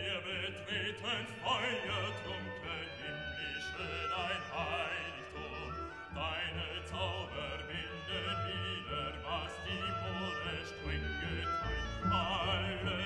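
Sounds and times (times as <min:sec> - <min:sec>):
classical accompaniment: 0:00.0 - 0:13.0
operatic voice singing: 0:00.0 - 0:13.0.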